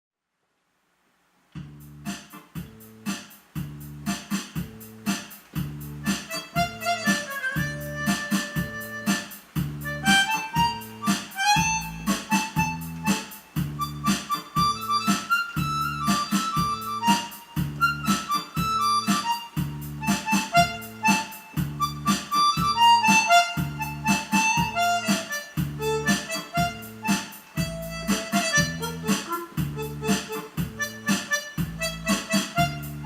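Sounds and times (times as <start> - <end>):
electronic keyboard melody: 2.0 - 33.0
keyboard auto-accompaniment: 4.0 - 33.0.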